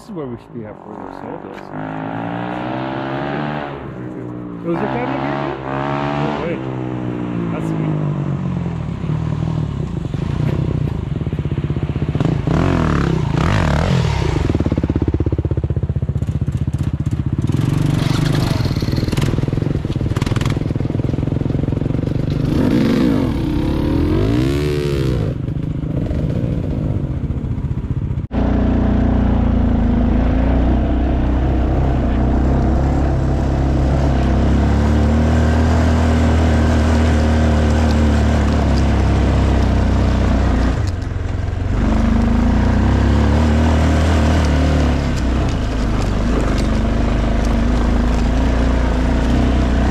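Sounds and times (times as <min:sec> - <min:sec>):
dirt bike engine running: 0:09.9 - 0:49.9.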